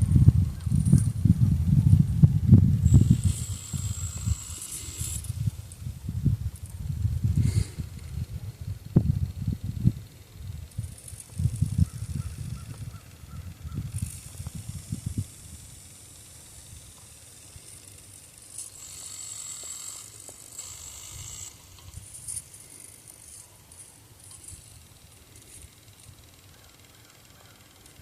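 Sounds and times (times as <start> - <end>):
small electric motor whining: 0.0 - 28.0.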